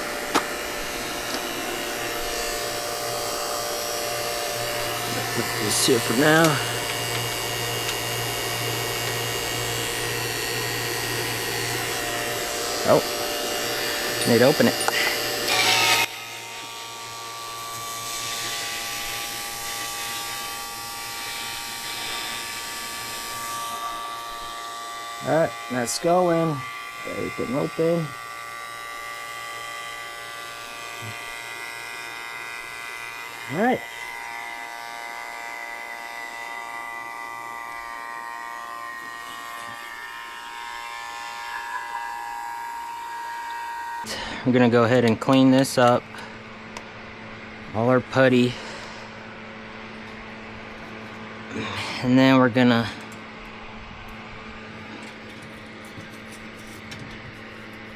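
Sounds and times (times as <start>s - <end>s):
vacuum pump whine: 0.0s - 57.9s.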